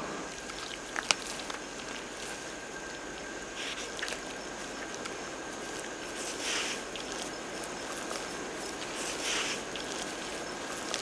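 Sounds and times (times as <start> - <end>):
rustling and tearing in undergrowth: 0.3 - 11.0.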